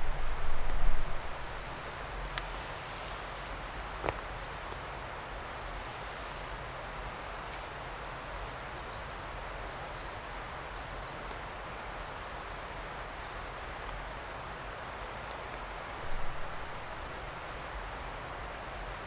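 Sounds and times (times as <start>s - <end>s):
wind through woods: 0.0s - 19.0s.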